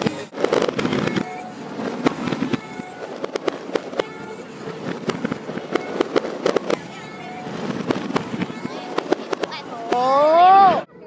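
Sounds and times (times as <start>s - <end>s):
fireworks popping and crackling: 0.0s - 10.4s.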